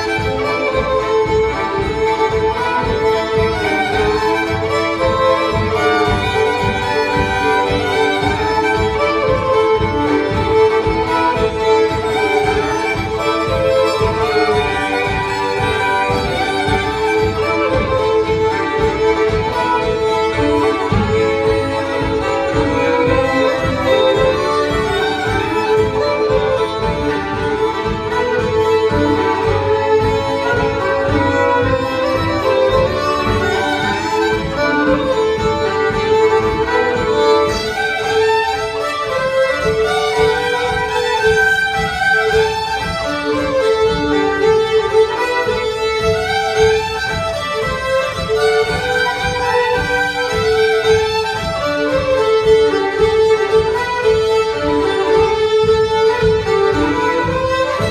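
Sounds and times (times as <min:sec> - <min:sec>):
fiddle drone: 0:00.0 - 0:57.9
fiddles playing in unison: 0:00.0 - 0:57.9.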